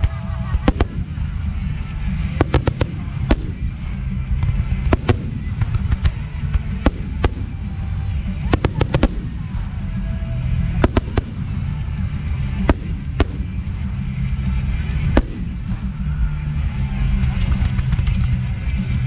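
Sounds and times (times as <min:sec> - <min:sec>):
deep rumble: 0:00.0 - 0:19.0
music: 0:00.0 - 0:19.0
fireworks bursting: 0:00.5 - 0:16.3.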